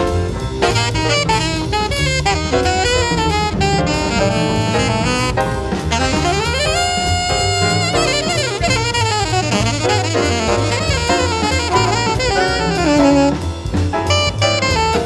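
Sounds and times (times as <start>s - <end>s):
drum kit: 0.0s - 15.0s
piano: 0.0s - 15.0s
walking double bass: 0.0s - 15.0s
alto saxophone melody: 0.3s - 15.0s.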